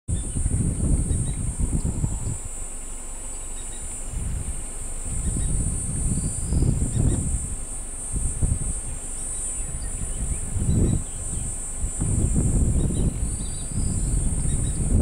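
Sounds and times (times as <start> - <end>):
high-pitched insect trill: 0.1 - 15.0
wind rumble on microphone: 0.1 - 15.0.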